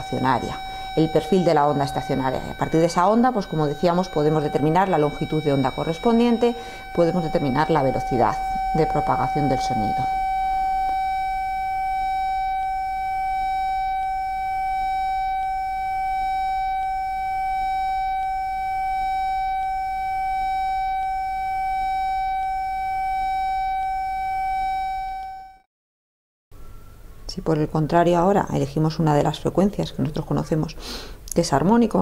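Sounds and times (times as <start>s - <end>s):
steady high tone: 0.0s - 25.6s.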